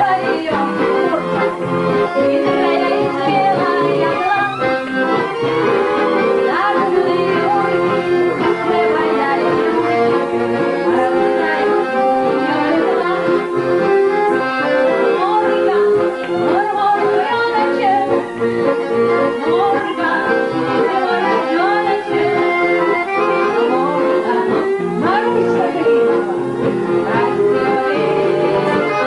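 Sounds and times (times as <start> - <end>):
woman singing: 0.0 - 1.4, 2.0 - 29.0
fiddle melody: 0.0 - 29.0
guitar: 0.0 - 29.0.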